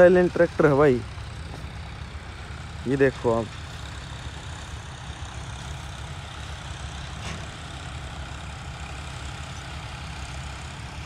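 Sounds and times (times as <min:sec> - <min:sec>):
distant tractor engine drone: 0:00.0 - 0:11.0.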